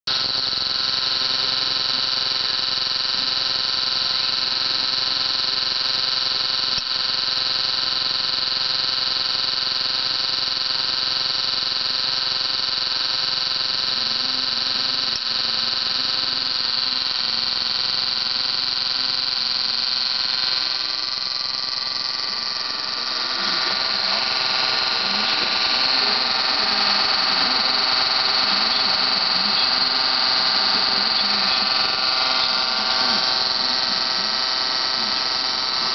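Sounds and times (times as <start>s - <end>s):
high-pitched electronic whine: 0.1s - 35.9s.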